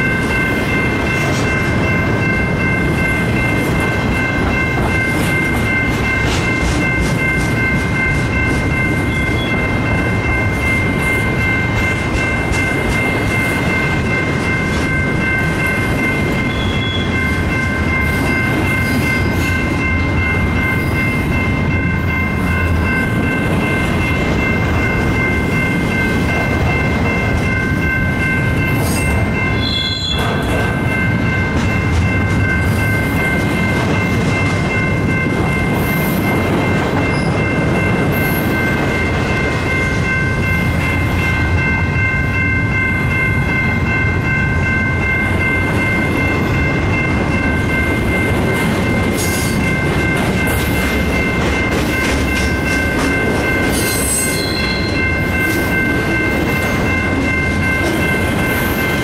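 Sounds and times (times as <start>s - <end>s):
crossing bell ringing: 0.0s - 59.0s
train rumbling past: 0.0s - 59.0s.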